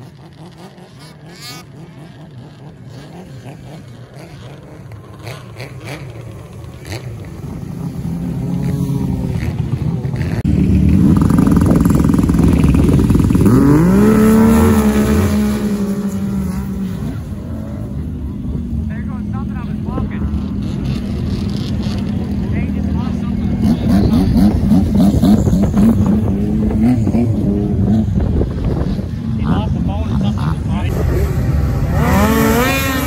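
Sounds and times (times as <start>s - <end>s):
engine revving and accelerating: 0.0s - 33.0s
snowmobile engines at full throttle: 0.0s - 33.0s.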